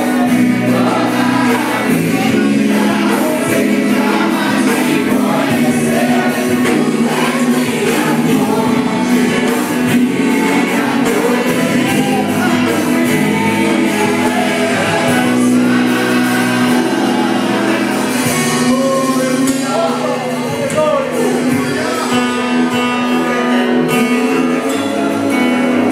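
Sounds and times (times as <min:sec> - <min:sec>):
group singing gospel song: 0:00.0 - 0:25.9
instrumental accompaniment: 0:00.0 - 0:25.9.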